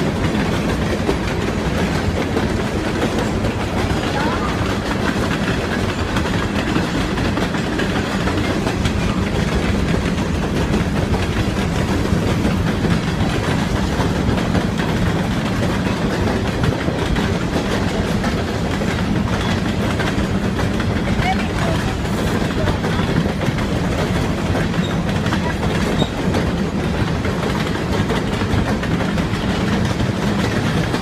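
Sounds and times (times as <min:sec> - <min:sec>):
freight train rumbling past: 0:00.0 - 0:31.0
wheels clacking over rails: 0:00.0 - 0:31.0.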